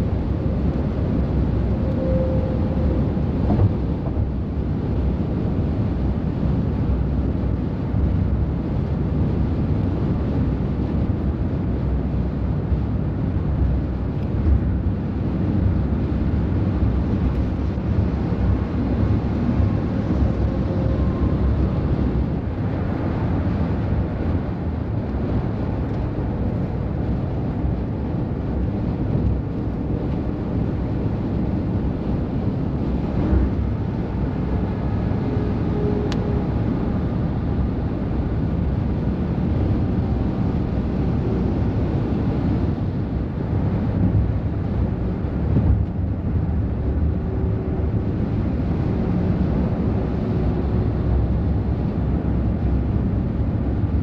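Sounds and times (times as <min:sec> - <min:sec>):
heavy road traffic rumble: 0:00.0 - 0:54.0.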